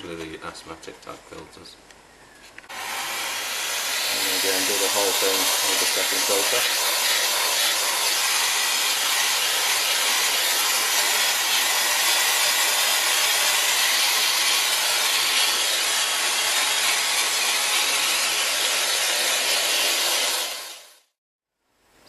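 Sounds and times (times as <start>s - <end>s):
vacuum cleaner running: 2.7s - 20.9s.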